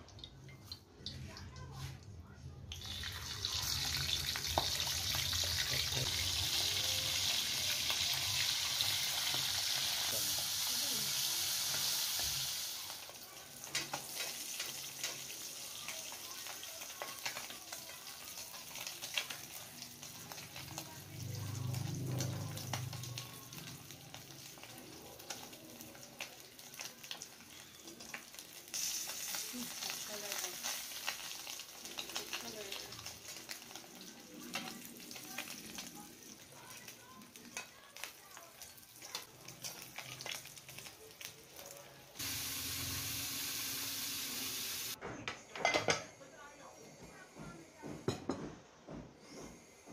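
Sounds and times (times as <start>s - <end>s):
fish sizzling in oil: 2.7s - 45.0s.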